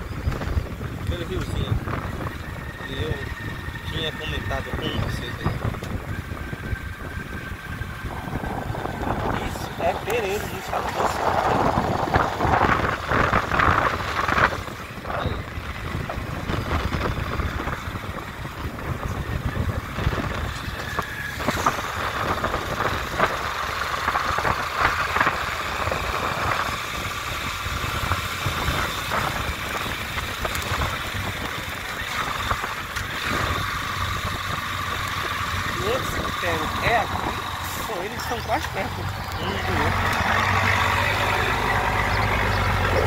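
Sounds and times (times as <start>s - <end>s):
road noise: 0.0s - 43.0s
vehicle engine running: 0.0s - 43.0s.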